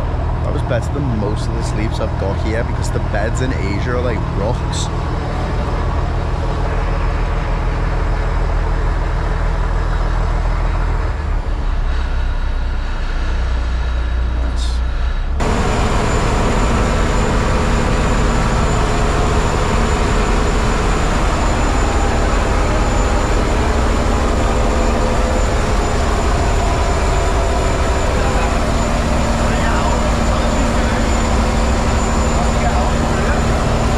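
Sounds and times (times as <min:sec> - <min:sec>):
boat engine drone: 0:00.0 - 0:33.9.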